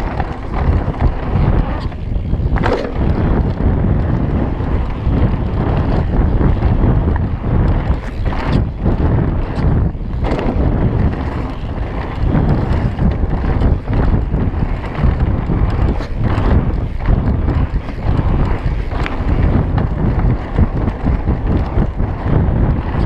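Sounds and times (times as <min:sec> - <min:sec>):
bike knocks and rattles: 0:00.0 - 0:23.0
bike tyres rumbling over dirt: 0:00.0 - 0:23.0
wind buffeting microphone: 0:00.0 - 0:23.0.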